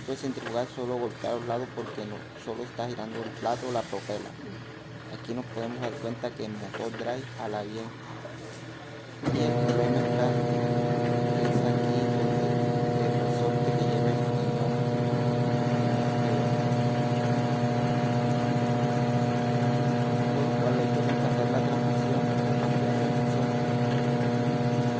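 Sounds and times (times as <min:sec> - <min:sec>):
washing machine motor humming: 0:00.0 - 0:24.9.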